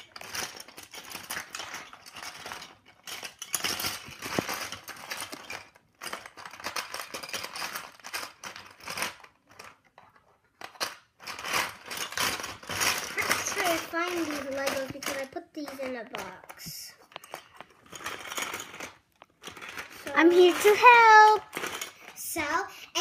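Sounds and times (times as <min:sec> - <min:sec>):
plastic bricks clicking and rattling: 0:00.0 - 0:23.0.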